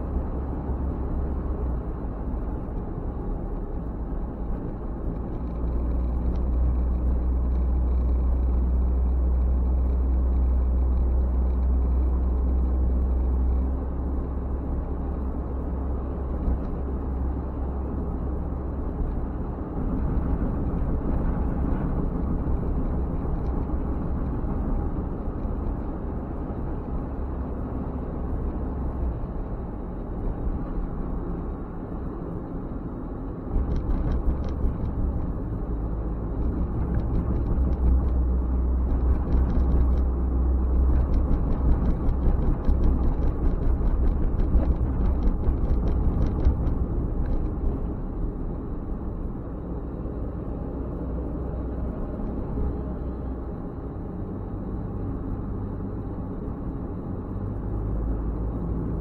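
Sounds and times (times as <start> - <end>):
car driving on a road: 0.0 - 59.0.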